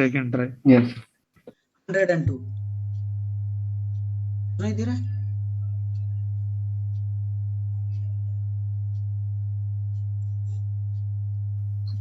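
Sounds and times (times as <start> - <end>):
low sine test tone: 2.3 - 12.0.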